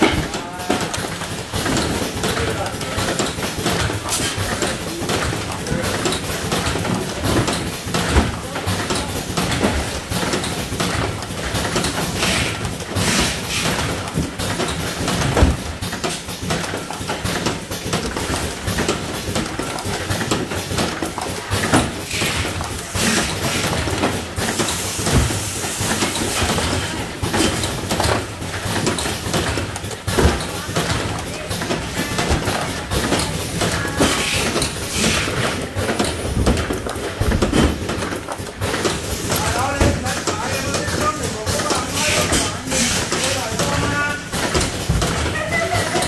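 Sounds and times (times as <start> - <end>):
packaging machine clattering: 0.0 - 46.0
sharp clicks and knocks: 0.0 - 46.0.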